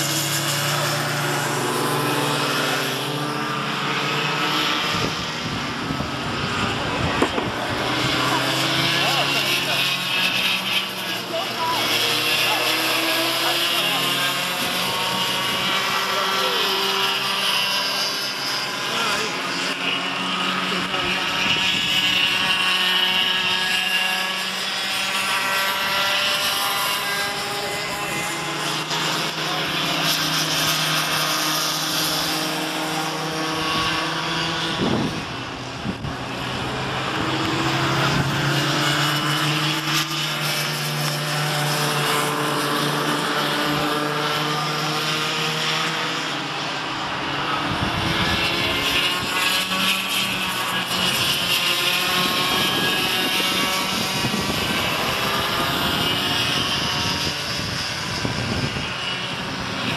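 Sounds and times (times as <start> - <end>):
go-kart engines buzzing: 0.0 - 59.9.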